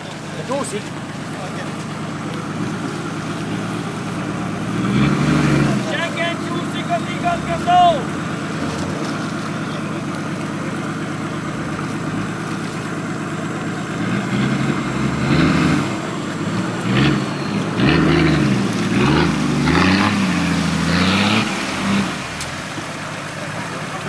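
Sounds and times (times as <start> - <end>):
off-road vehicle engine revving: 0.0 - 24.0
water splashing: 0.0 - 24.0.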